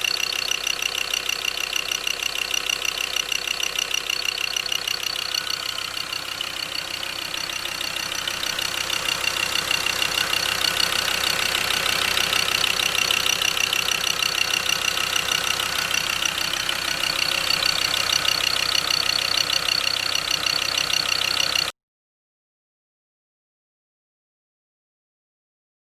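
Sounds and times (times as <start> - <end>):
diesel engine idling: 0.0 - 21.7.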